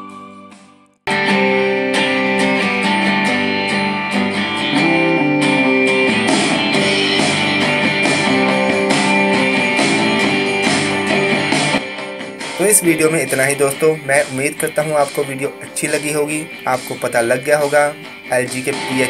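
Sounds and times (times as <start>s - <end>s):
guitar song with steady beat: 0.0s - 19.0s.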